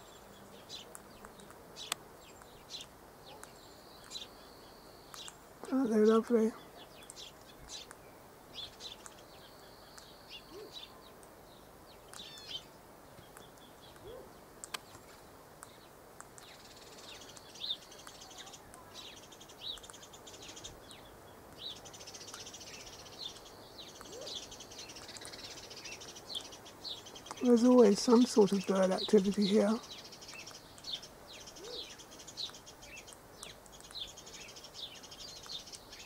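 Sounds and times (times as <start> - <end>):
bird chirps and twittering: 0.0 - 36.0.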